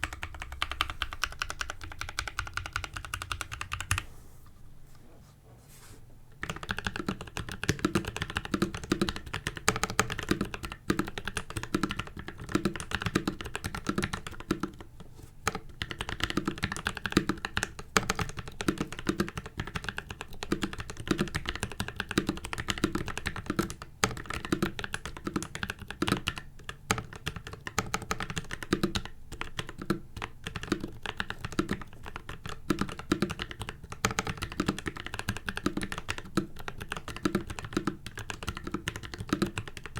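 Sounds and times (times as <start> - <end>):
fast typing on mechanical keyboard: 0.0 - 4.0, 6.4 - 39.9.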